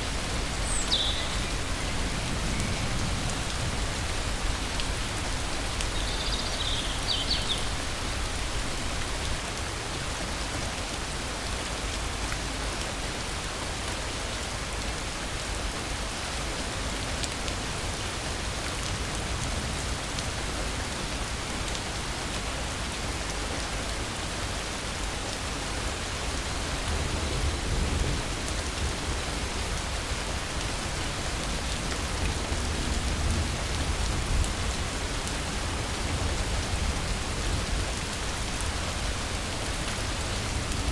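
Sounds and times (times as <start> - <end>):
rain on ground and foliage: 0.0 - 40.9.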